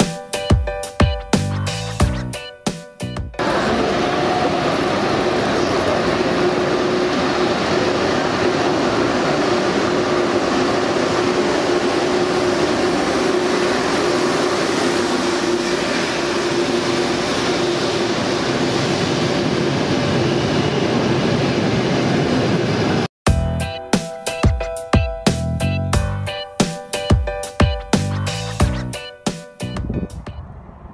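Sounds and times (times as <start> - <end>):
electric train rumbling: 3.1 - 30.9.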